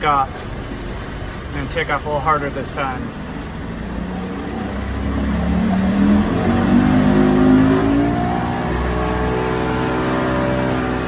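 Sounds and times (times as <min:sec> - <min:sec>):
outboard engine accelerating: 0:00.0 - 0:11.0.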